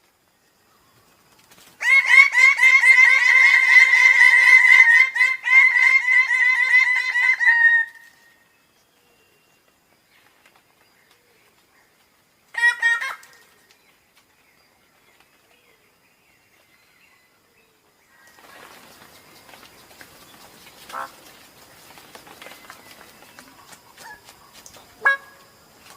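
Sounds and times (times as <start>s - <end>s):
noisy background hiss: 0.0s - 25.9s.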